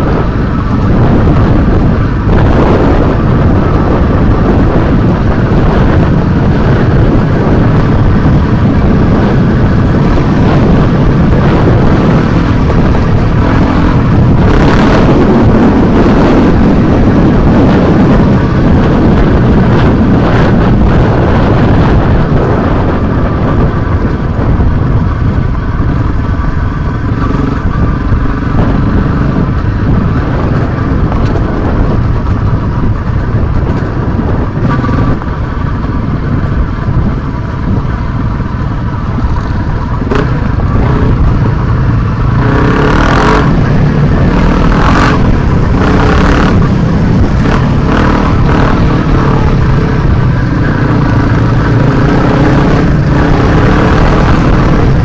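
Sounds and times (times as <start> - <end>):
motorcycle engine running: 0.0 - 55.0
other dirt bikes running: 0.0 - 55.0.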